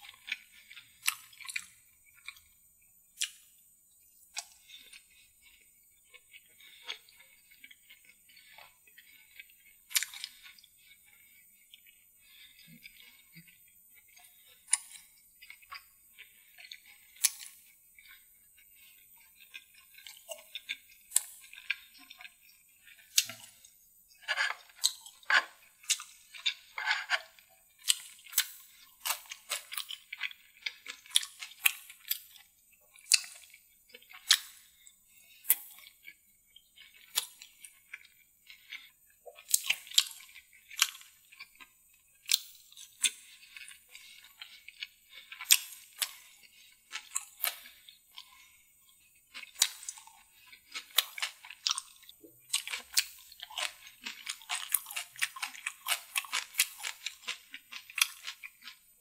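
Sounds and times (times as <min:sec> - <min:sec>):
person chewing and mouth smacking: 0:00.0 - 0:59.0.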